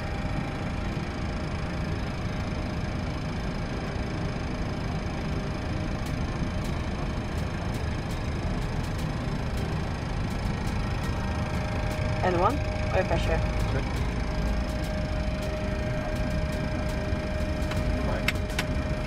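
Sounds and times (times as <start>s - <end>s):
faint steady tones: 0.0s - 19.0s.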